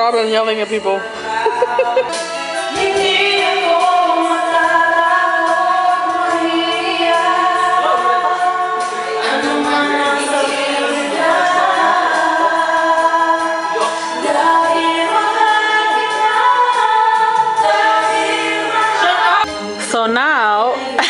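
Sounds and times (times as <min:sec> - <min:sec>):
karaoke backing track: 0:00.0 - 0:21.0
music: 0:00.0 - 0:21.0
people singing along: 0:01.2 - 0:19.5.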